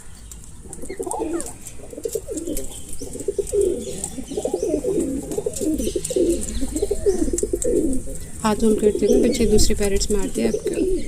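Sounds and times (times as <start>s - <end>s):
birds cooing: 0.0s - 11.0s.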